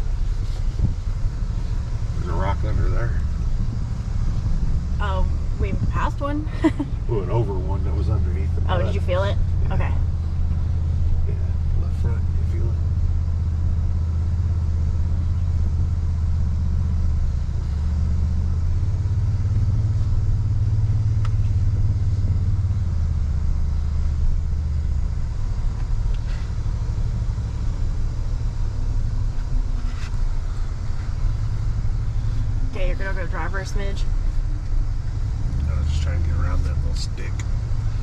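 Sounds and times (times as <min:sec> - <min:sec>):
truck engine running low: 0:00.0 - 0:38.0.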